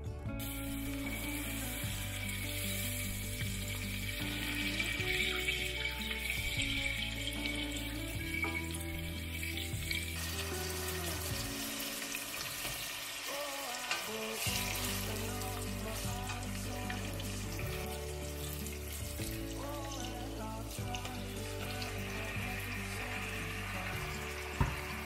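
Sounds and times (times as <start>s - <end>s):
background music: 0.0s - 25.0s
butter and sugar sizzling: 0.0s - 25.0s.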